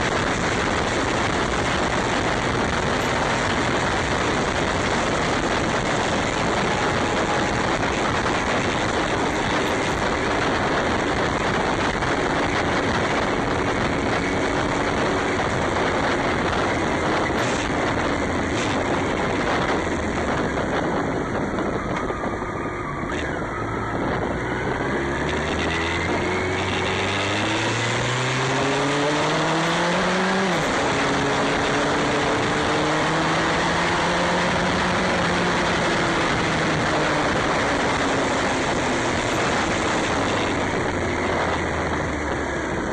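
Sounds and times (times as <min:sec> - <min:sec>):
motorcycle engine accelerating: 0:00.0 - 0:42.9
steady rushing noise: 0:00.0 - 0:42.9.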